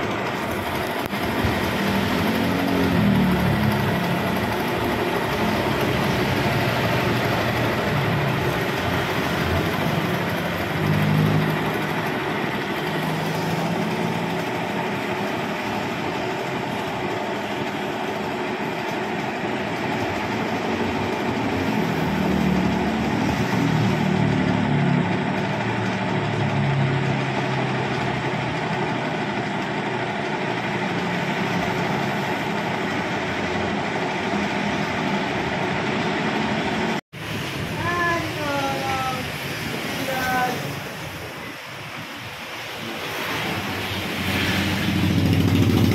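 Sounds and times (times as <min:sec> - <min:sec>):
spin dryer whirring: 0:00.0 - 0:45.9.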